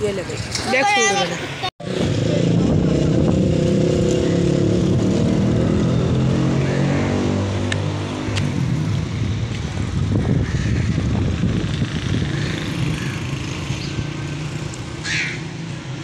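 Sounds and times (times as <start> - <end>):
distant motor traffic: 0.0 - 16.0
wind buffeting microphone: 1.8 - 15.0.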